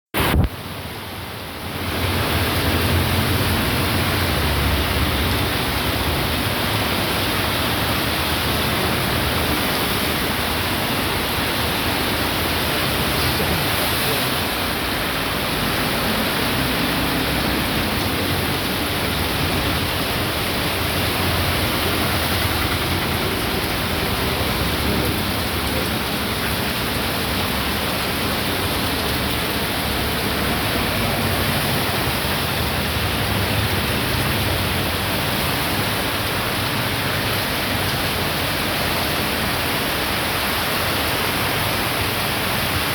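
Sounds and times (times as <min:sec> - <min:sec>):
heavy rain falling: 0:00.2 - 0:42.9.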